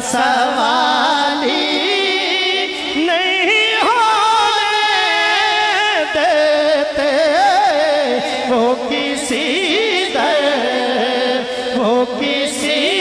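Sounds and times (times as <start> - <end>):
man singing through a pa system: 0.0 - 13.0.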